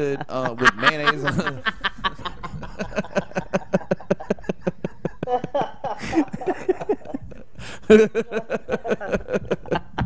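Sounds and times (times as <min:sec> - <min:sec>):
men laughing hard: 0:00.0 - 0:10.0.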